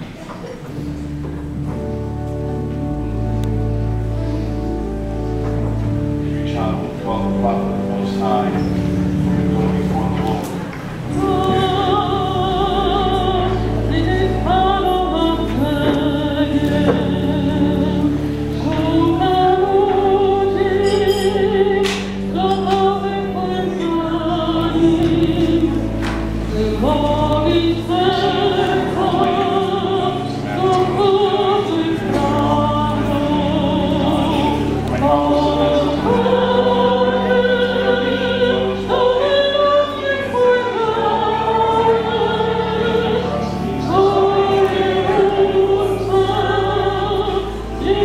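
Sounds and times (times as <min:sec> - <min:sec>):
low accompaniment notes: 0:00.0 - 0:48.0
voices singing a hymn: 0:00.7 - 0:48.0.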